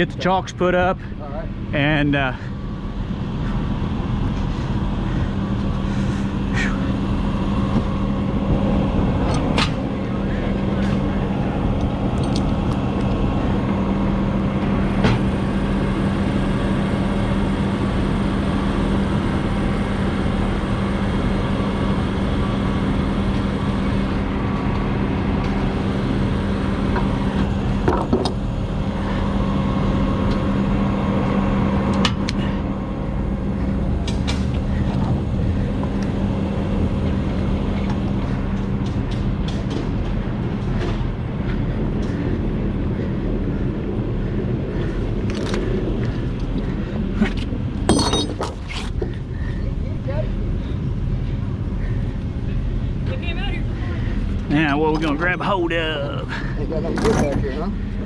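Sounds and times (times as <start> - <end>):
truck diesel engine idling: 0.0 - 47.9.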